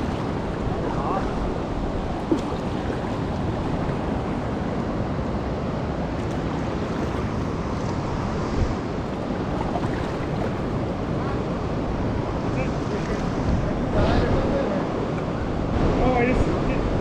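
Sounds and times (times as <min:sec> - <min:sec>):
fast river water roaring: 0:00.0 - 0:17.0.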